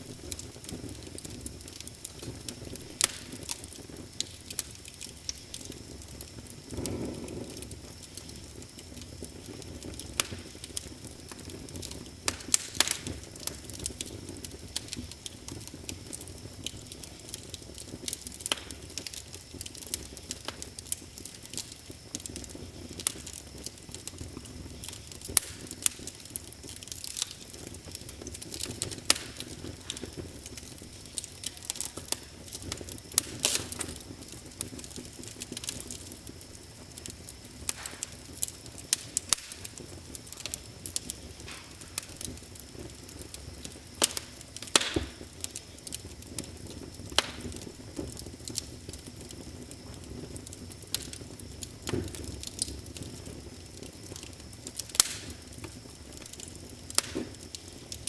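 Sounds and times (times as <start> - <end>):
low rush of flames: 0.0 - 58.0
wood fire popping and snapping: 0.0 - 58.0.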